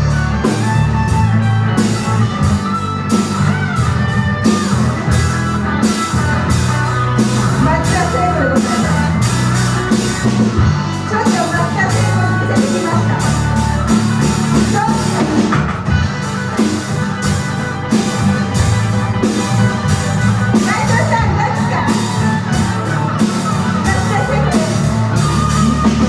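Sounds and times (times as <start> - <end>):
bass line: 0.0 - 26.0
drum kit beat: 0.0 - 26.0
lead guitar melody: 0.0 - 26.0.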